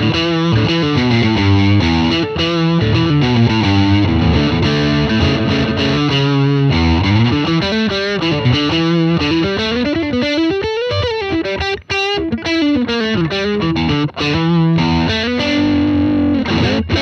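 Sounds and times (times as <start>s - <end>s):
electric guitar melody: 0.0s - 17.0s.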